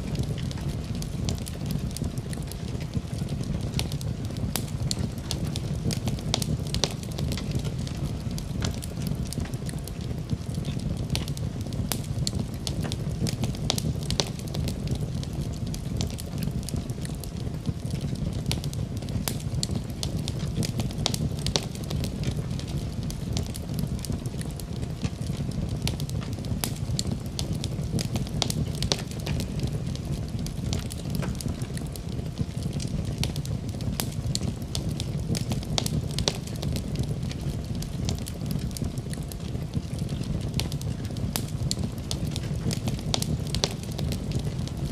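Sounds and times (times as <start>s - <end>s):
low rumble of flames: 0.0s - 44.9s
wood fire crackling and popping: 0.0s - 44.9s.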